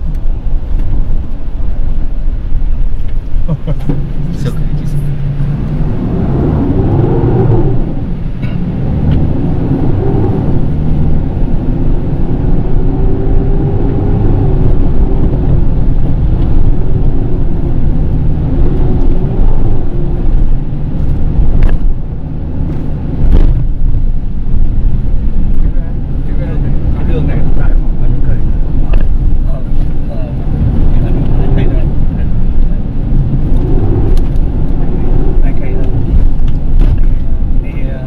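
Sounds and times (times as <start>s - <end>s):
pickup engine revving: 0.0s - 38.0s
tyres and suspension rumbling: 0.0s - 38.0s.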